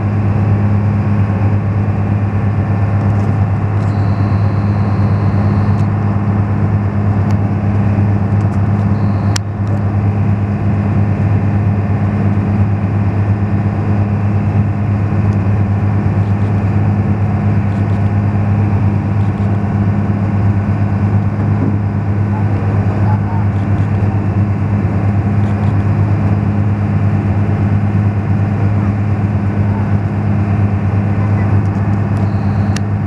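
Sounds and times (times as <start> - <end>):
ferry engine droning: 0.0 - 33.0.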